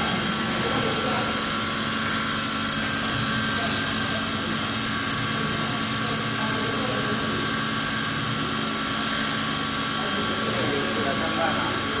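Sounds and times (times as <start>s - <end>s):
drilling machine spindles whining: 0.0s - 12.0s
mechanical hum: 0.0s - 12.0s.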